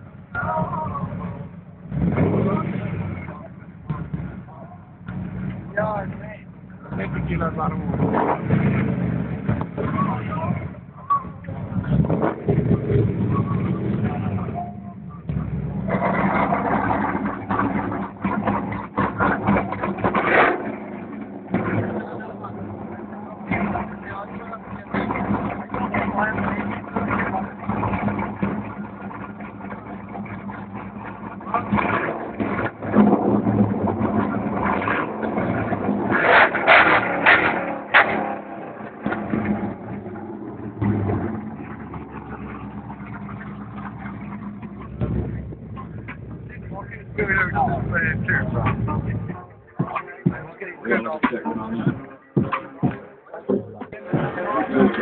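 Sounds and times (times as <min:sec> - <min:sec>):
car engine idling: 0:00.0 - 0:55.0
engine throttle blips: 0:00.0 - 0:55.0.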